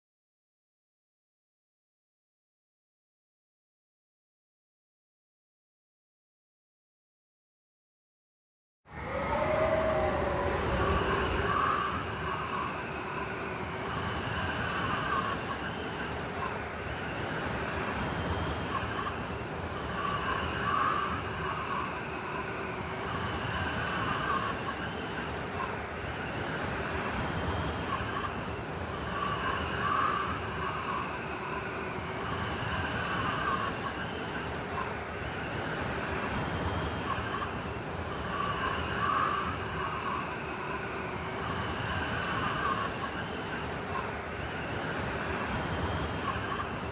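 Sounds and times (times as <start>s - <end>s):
blizzard wind howling: 8.9s - 46.9s.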